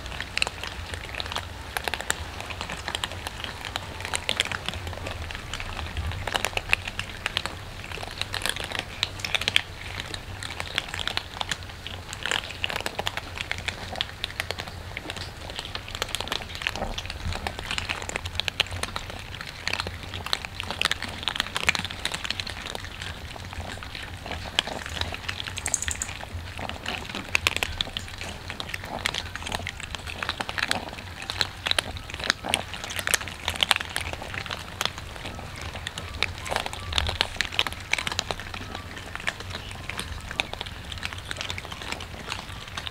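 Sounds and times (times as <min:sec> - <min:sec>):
cats crunching dry kibble: 0:00.0 - 0:42.9.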